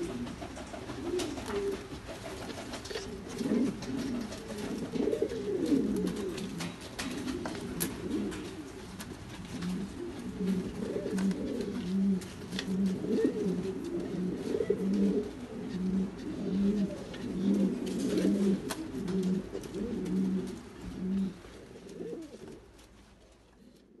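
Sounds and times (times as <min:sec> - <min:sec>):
pigeon cooing: 0:00.0 - 0:22.6.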